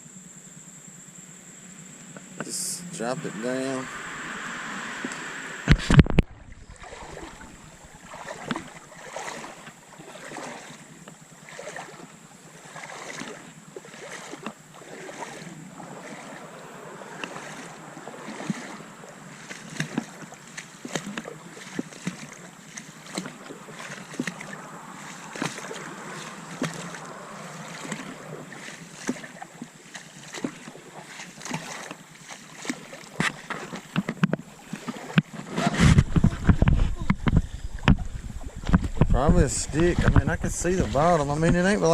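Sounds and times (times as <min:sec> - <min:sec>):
creek water splashing: 0:01.9 - 0:41.9
rush of moving water: 0:02.2 - 0:41.9.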